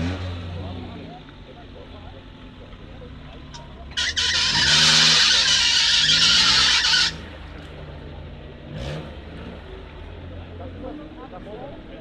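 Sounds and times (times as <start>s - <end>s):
off-road vehicle engine revving: 0.0s - 11.8s.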